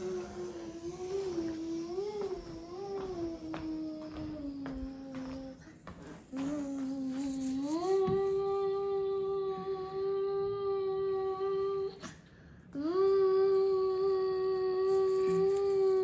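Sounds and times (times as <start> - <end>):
child humming: 0.0 - 12.2, 12.8 - 16.0.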